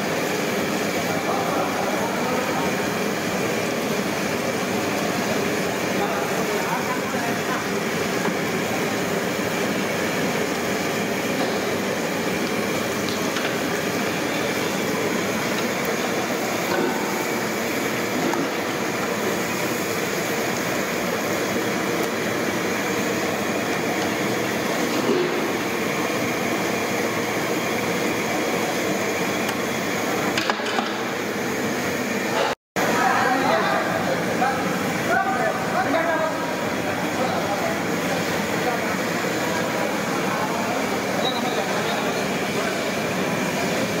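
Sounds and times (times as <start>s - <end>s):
oil sizzling while deep-frying: 0.0s - 44.0s.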